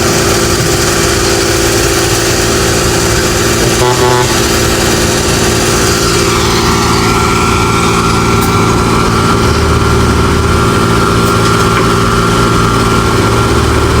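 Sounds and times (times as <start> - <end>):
heavy machinery engine humming: 0.0 - 14.0.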